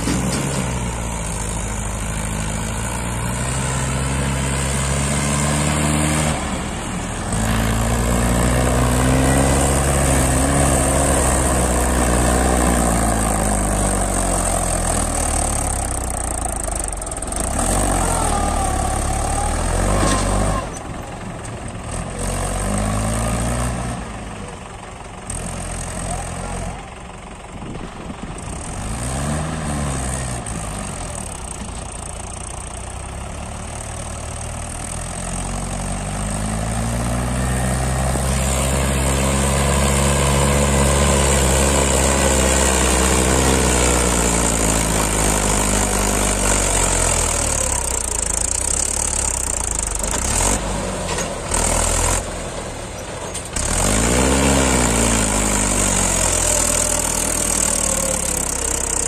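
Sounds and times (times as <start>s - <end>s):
tractor diesel engine pulling: 0.0s - 59.0s.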